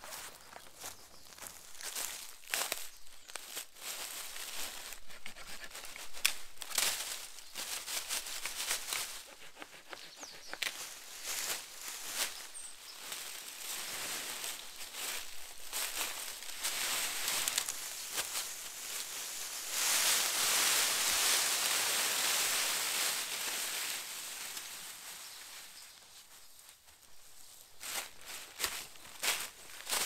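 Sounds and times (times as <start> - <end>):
leaves and twigs rustling: 0.0 - 30.0.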